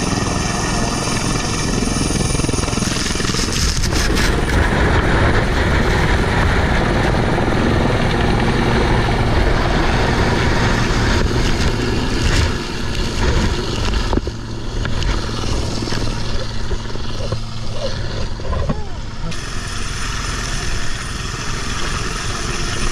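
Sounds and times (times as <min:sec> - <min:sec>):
helicopter rotor and engine: 0:00.0 - 0:22.9.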